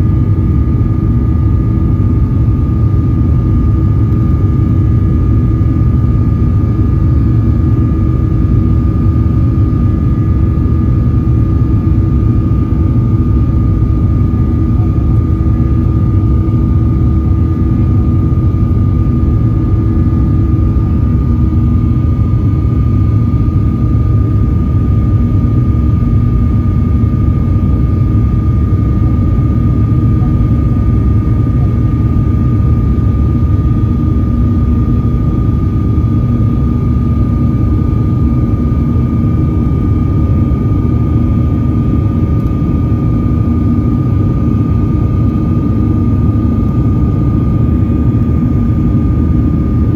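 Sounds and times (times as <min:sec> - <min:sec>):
high engine whine: 0:00.0 - 0:49.9
jet engines rumbling in cabin: 0:00.0 - 0:49.9.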